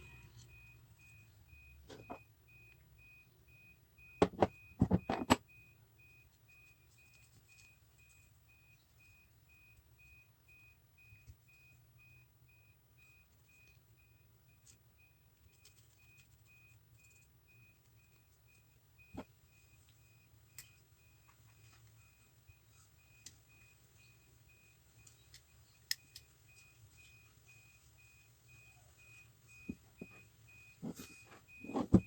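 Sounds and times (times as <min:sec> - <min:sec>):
faint high electronic beep: 0:00.0 - 0:32.0.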